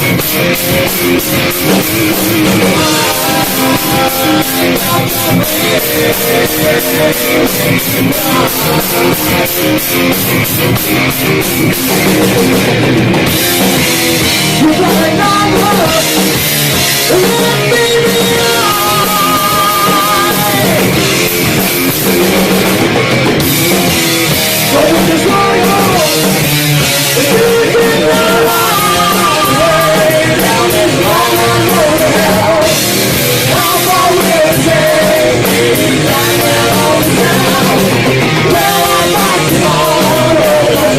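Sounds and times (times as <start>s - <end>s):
heavy metal band playing: 0.0s - 40.9s
melodic guitar lead: 0.0s - 40.9s.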